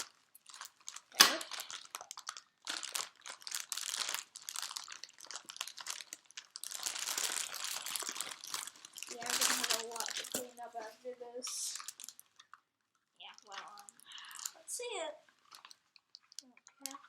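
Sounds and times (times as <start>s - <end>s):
packaging crinkling and rustling: 0.0s - 12.6s, 13.2s - 17.0s.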